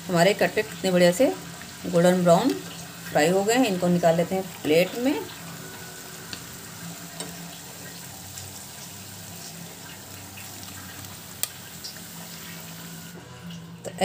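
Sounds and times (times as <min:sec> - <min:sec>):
cutlets sizzling in oil: 0:00.0 - 0:14.0.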